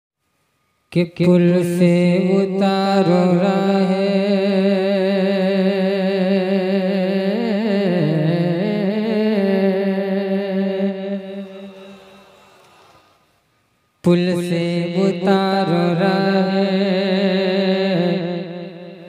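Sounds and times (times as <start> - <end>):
man singing into a microphone: 0.9 - 12.9, 14.0 - 19.0.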